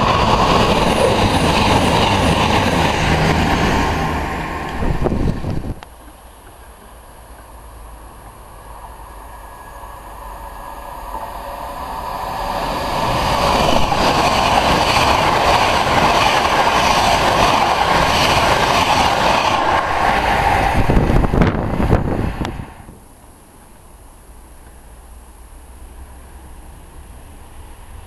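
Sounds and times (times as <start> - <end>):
passenger train passing: 0.0 - 23.9, 25.0 - 28.0
wheel and rail noise: 0.0 - 23.9.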